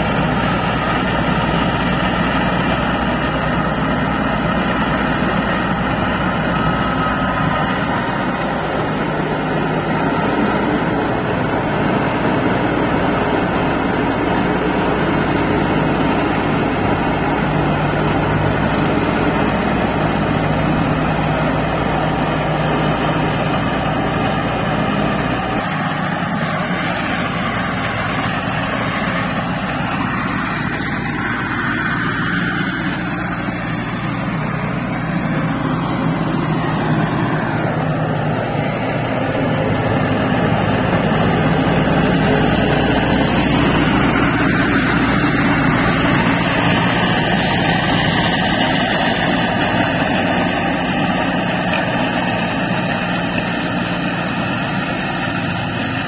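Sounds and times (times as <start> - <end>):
diesel mower cutting grass: 0.0 - 56.0.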